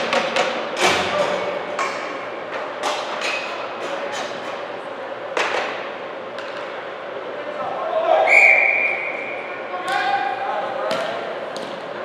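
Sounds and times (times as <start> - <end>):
indoor rink hum: 0.0 - 12.0.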